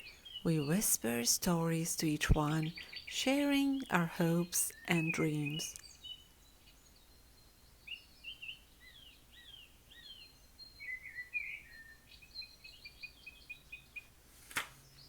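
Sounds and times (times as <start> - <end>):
songbirds chirping and whistling: 0.0 - 14.2, 14.8 - 15.0.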